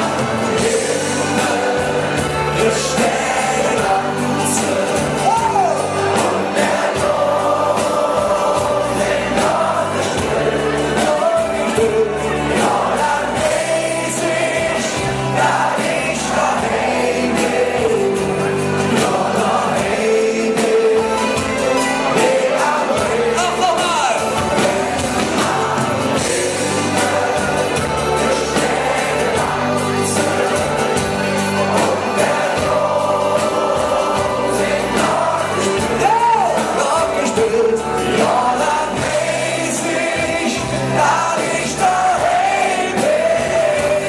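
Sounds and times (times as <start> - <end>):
live band music: 0.0 - 44.0
voices singing together: 0.0 - 44.0.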